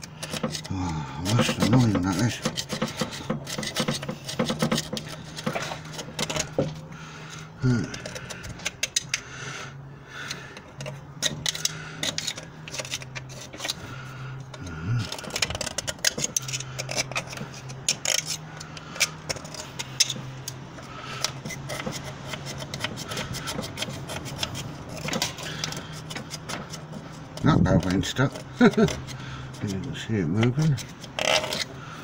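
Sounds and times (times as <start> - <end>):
screwdriver scraping metal: 0.0 - 6.8, 7.4 - 9.2, 10.2 - 32.0.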